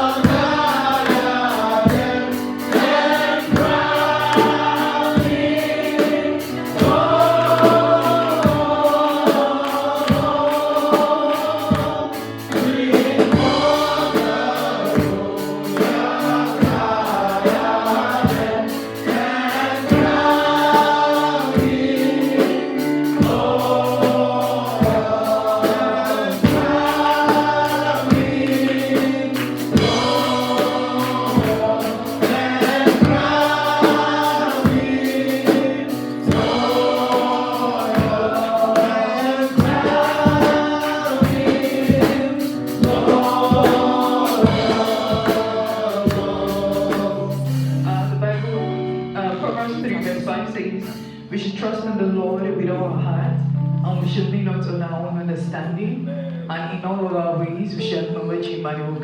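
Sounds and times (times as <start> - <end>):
band with steady beat: 0.0 - 48.2
gospel choir singing: 0.0 - 56.8.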